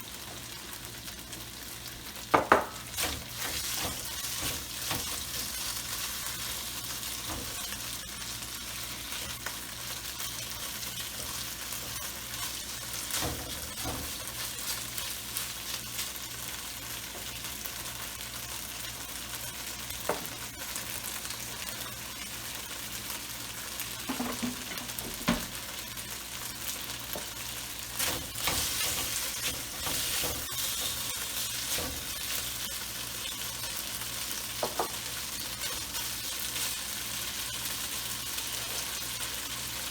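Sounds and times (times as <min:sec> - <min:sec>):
shrimp sizzling in hot oil: 0:00.0 - 0:39.9.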